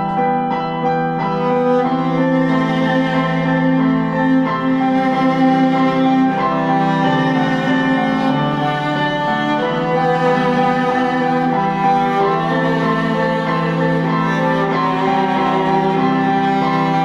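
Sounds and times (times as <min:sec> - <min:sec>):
piano accompaniment: 0:00.0 - 0:17.0
viola bowed notes: 0:00.0 - 0:17.0.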